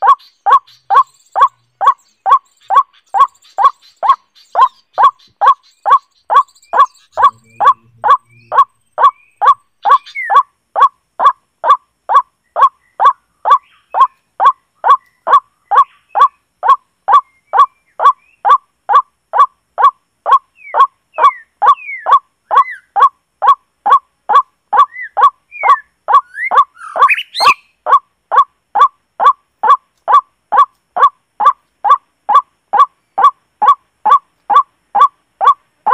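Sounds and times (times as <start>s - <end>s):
high bird chirps: 0.0s - 35.9s
repeated short bird call: 0.0s - 35.9s.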